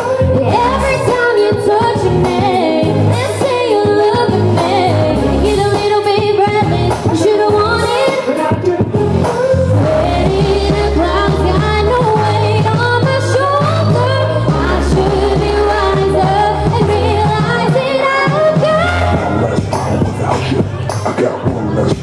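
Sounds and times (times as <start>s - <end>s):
woman singing into microphone: 0.0s - 19.6s
amplified backing music: 0.0s - 22.0s.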